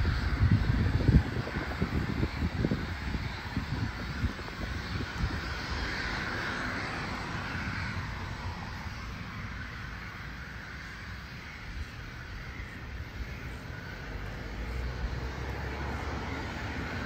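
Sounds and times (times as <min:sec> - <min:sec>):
jet engines rushing: 0:00.0 - 0:17.0
wind buffeting microphone: 0:00.0 - 0:17.0.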